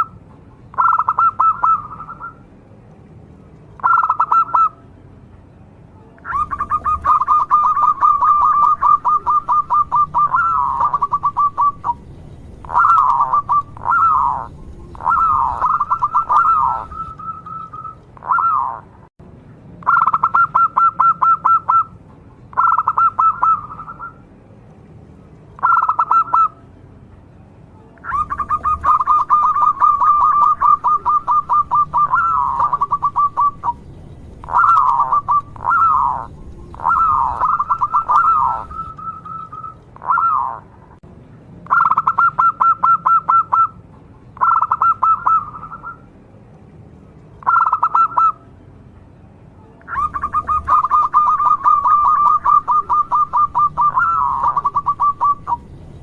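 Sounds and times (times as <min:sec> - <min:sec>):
dove calling in pulsed notes: 0:00.0 - 0:02.5, 0:03.7 - 0:05.0, 0:06.0 - 0:19.1, 0:19.8 - 0:24.3, 0:25.5 - 0:26.8, 0:27.8 - 0:41.0, 0:41.6 - 0:46.1, 0:47.3 - 0:48.6, 0:49.8 - 0:56.0.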